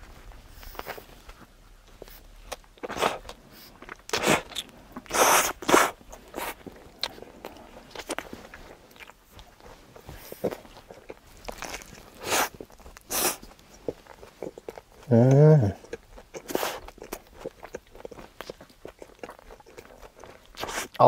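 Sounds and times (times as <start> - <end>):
person chewing crunchy food: 0.5 - 21.0.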